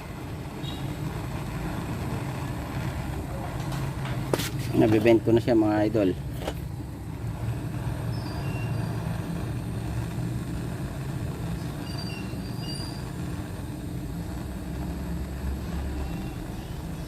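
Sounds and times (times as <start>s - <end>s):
torch flame burning: 0.0s - 17.0s.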